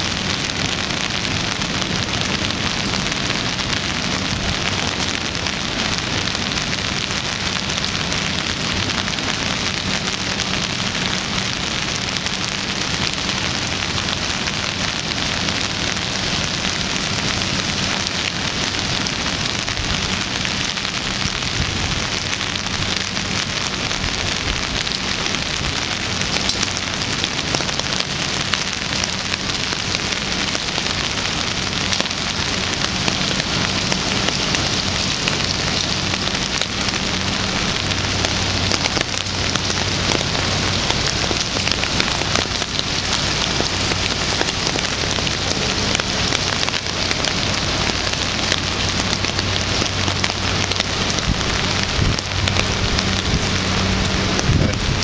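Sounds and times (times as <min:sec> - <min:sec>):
rain on paving and metal railings: 0:00.0 - 0:55.0.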